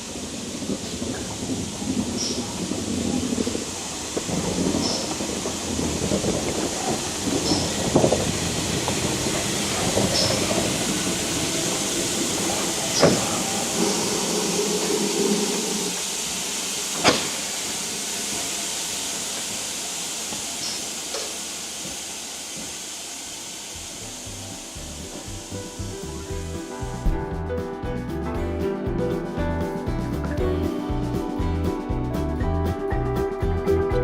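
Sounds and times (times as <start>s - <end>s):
steam hissing: 0.0s - 33.8s.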